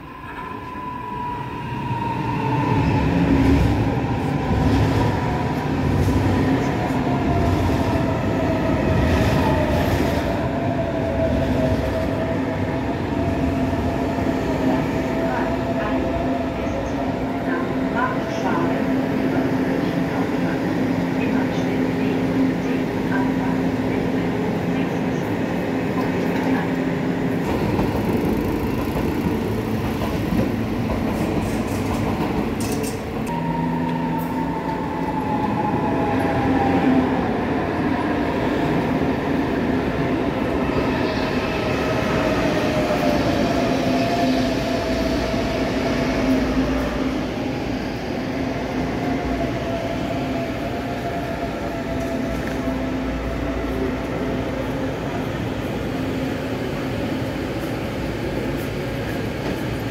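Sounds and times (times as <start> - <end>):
electric train hum: 0.0 - 59.9.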